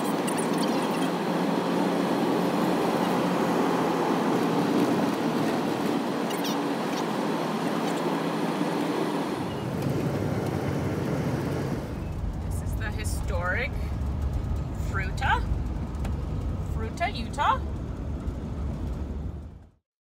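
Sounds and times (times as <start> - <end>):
road and engine noise in vehicle: 0.0 - 19.8.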